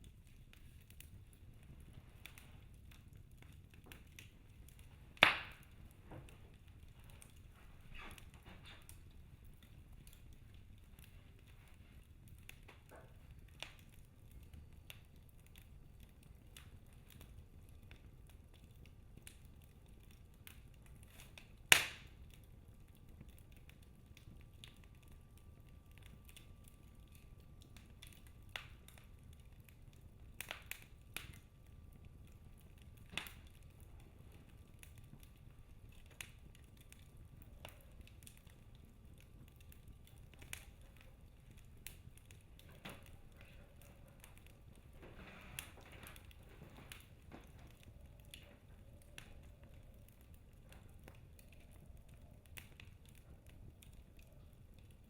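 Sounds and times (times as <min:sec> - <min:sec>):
fire crackles and pops: 0:00.0 - 0:55.0
low rumble of flames: 0:00.0 - 0:55.0.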